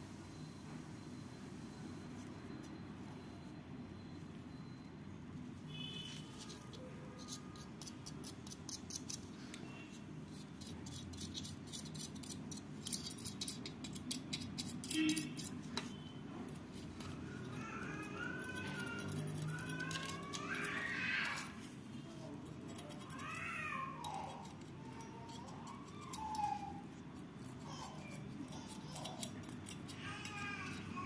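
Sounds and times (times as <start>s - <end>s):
brush bristles scratching circuit board: 6.0s - 31.0s.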